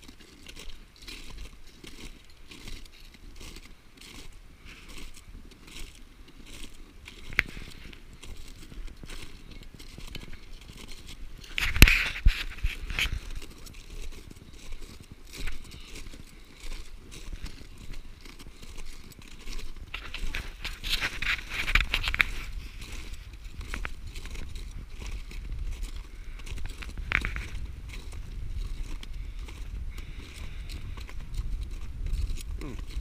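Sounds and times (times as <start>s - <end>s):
crampons crunching on ice: 0.0s - 33.0s.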